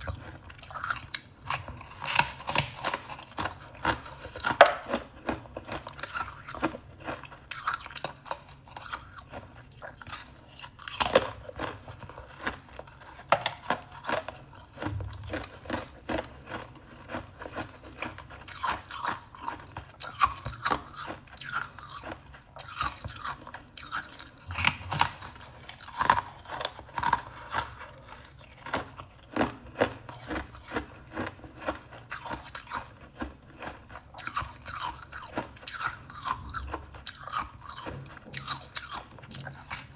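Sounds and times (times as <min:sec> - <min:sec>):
person chewing crisp crackers: 0:00.0 - 0:39.9.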